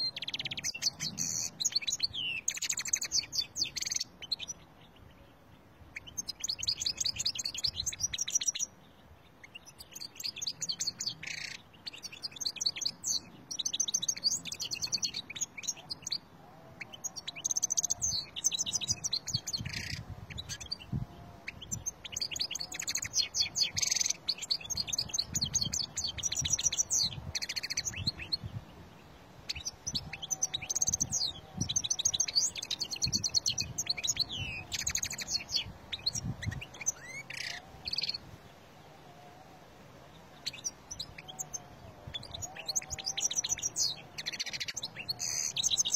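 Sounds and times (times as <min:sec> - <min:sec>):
goldfinch twittering song: 0:00.0 - 0:38.3, 0:40.1 - 0:45.9.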